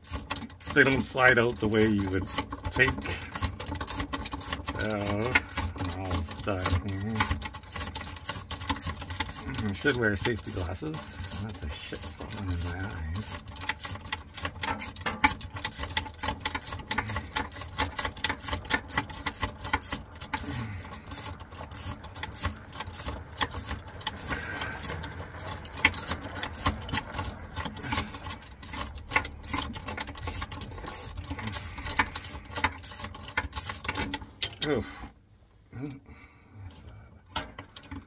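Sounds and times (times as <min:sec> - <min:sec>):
metallic clicking of hand tools: 0:00.0 - 0:34.7.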